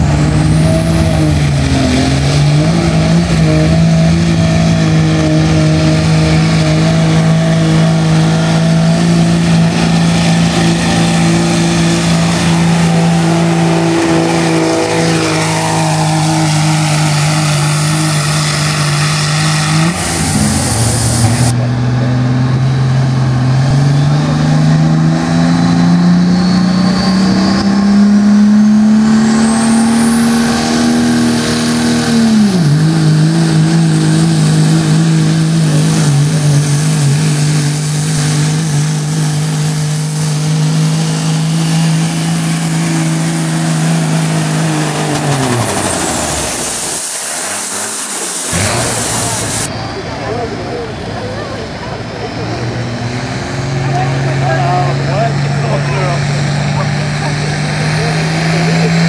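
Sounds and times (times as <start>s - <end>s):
diesel engine at high revs: 0.0s - 59.0s
truck engine climbing in pitch: 0.0s - 59.0s.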